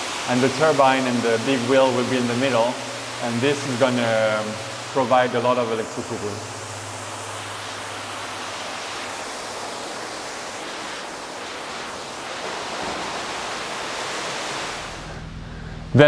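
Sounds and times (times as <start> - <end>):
water rushing over waterfall: 0.0 - 15.0.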